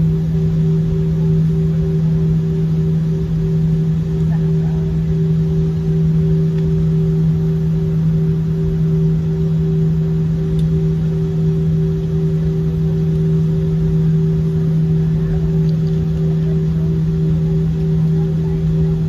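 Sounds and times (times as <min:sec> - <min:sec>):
airliner cabin drone: 0:00.0 - 0:19.0
higher hum: 0:00.0 - 0:19.0
low rumble: 0:00.0 - 0:19.0.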